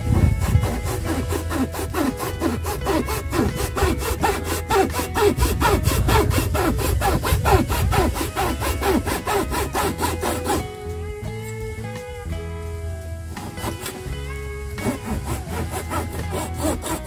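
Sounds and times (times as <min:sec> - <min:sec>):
sawing bamboo: 0:00.0 - 0:10.9, 0:13.4 - 0:17.0
faint background music: 0:00.0 - 0:17.0.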